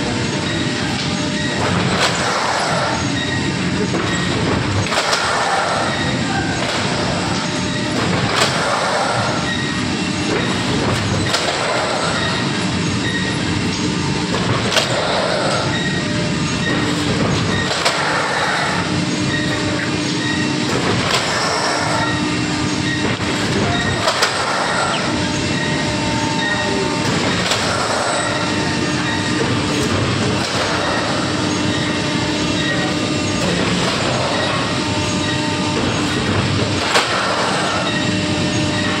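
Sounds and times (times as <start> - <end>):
printing machine clatter and hum: 0.0 - 39.0.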